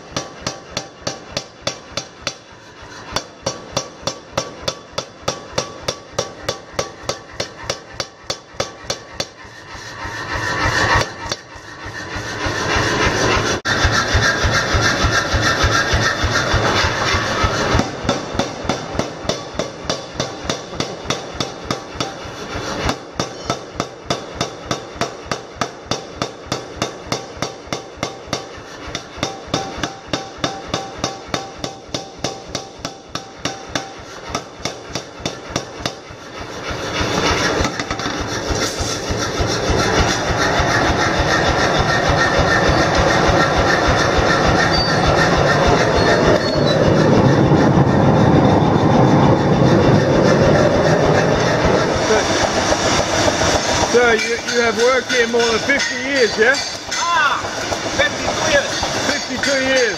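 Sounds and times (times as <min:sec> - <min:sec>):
forge furnace roaring: 0:00.0 - 0:59.9
power hammer pounding metal: 0:00.0 - 0:59.9.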